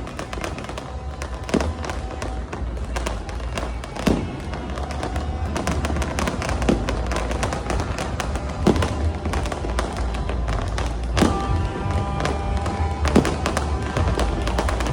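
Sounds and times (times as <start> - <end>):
fireworks bangs: 0.0 - 14.9
fireworks crackling: 0.0 - 14.9
heavy bass music: 0.0 - 14.9.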